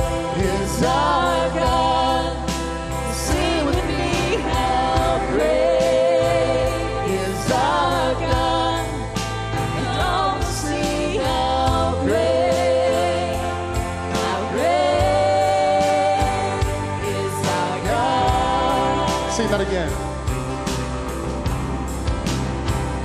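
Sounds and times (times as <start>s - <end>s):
woman singing: 0.0s - 19.5s
live band playing: 0.0s - 23.0s.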